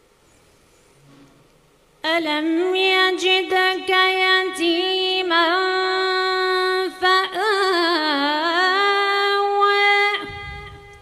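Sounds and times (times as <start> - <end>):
woman reciting melodically: 2.0 - 11.0.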